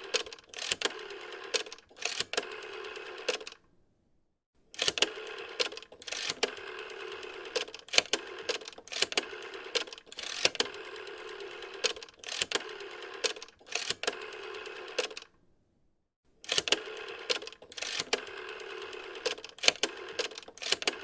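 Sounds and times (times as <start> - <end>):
rotary telephone dial whirring: 0.0 - 3.6, 4.8 - 15.3, 16.4 - 21.0.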